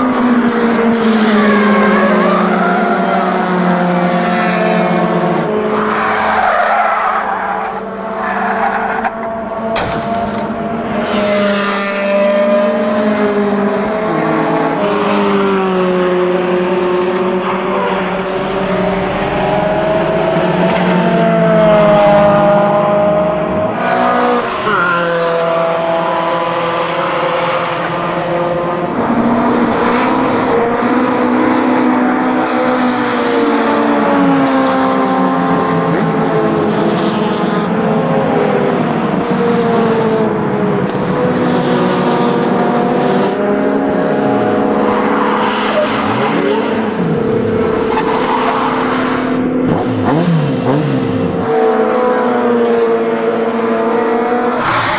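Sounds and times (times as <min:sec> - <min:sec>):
racing car engines passing: 0:00.0 - 0:54.9.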